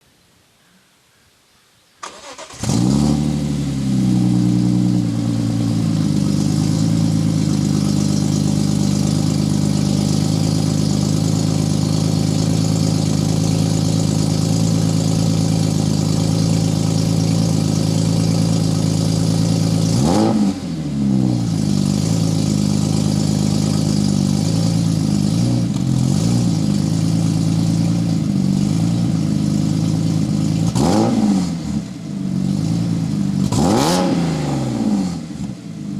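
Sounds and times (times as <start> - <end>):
car engine idling and revving: 2.1 - 35.9.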